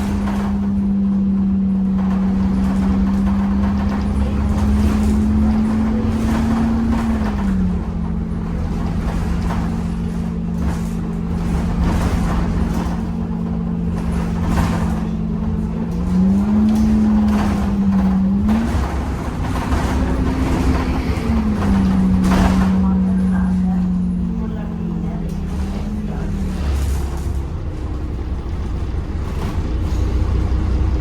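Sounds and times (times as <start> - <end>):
bus engine rumble: 0.0 - 31.0
bus humming whine: 0.0 - 31.0.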